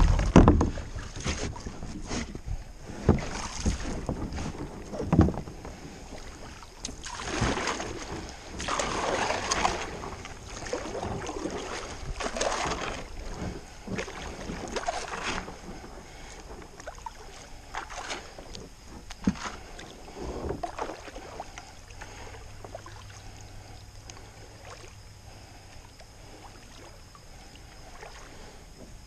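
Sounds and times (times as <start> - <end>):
kayak paddle splashing water: 0.0 - 29.0.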